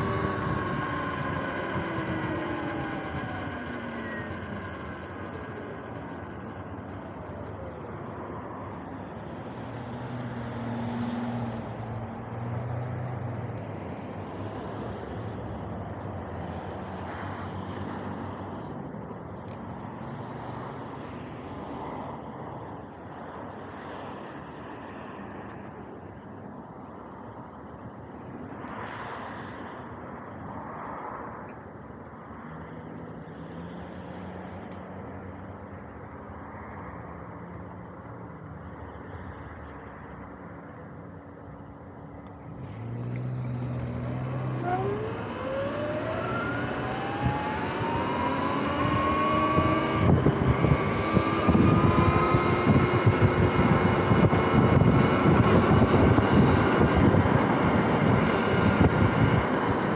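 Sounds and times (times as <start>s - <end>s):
nearby vehicle engine hum: 0.0s - 59.9s
road traffic hum: 0.0s - 59.9s.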